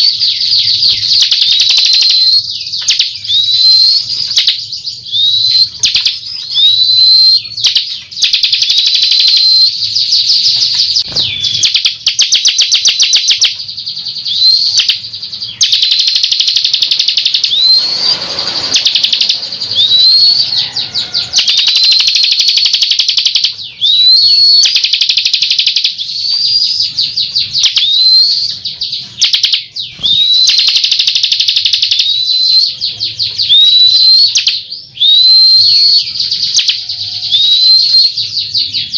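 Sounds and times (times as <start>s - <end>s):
bird singing with trills: 0.0s - 38.9s.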